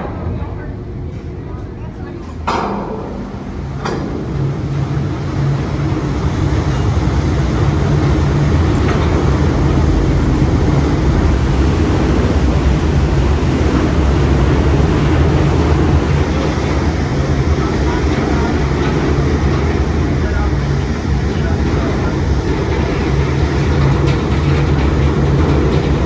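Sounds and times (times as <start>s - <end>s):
churning propeller wash: 0.0s - 26.0s
deep diesel engine rumble: 0.0s - 26.0s.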